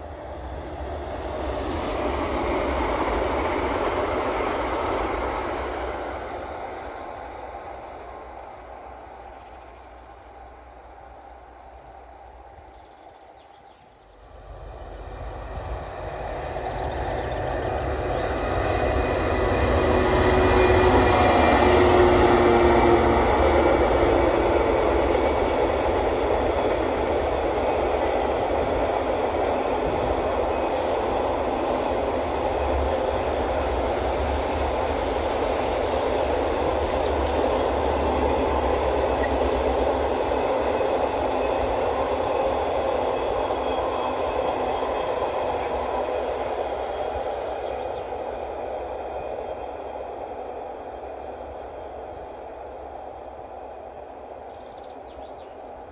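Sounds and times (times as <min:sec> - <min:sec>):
diesel locomotive engine passing: 0:00.0 - 0:55.9
train wheels rolling on rails: 0:00.0 - 0:55.9.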